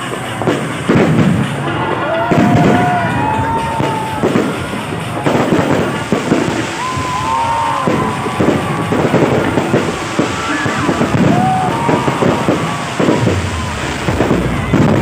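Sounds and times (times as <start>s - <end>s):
fireworks bangs and crackling: 0.0s - 15.0s
fireworks whistling: 0.0s - 15.0s.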